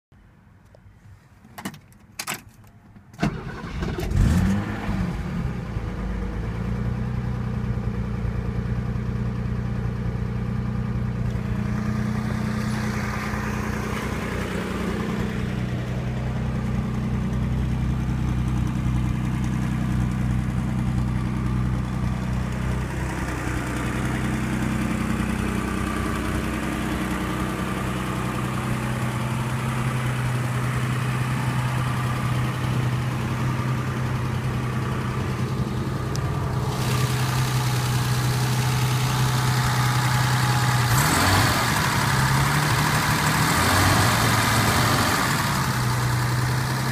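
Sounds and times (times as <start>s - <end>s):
car engine starting and idling: 1.8s - 46.9s.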